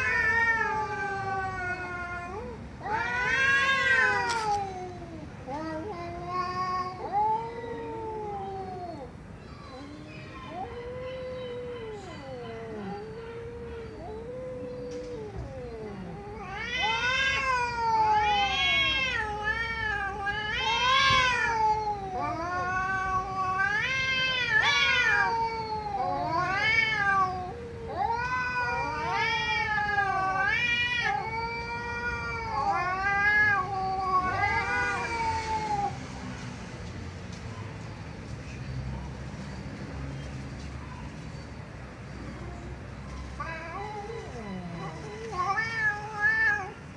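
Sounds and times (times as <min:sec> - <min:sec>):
cat yowling: 0:00.0 - 0:36.0, 0:42.3 - 0:46.9.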